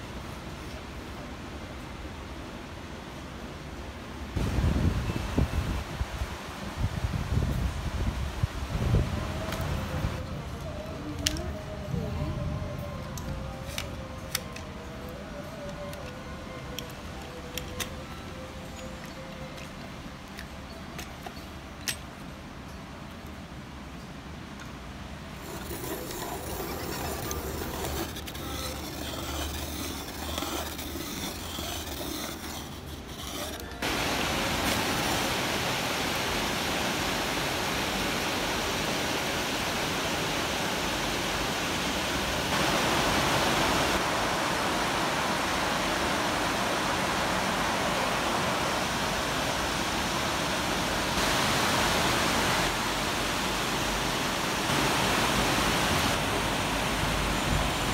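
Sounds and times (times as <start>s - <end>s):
steady rain: 0.0s - 20.6s, 21.8s - 57.9s.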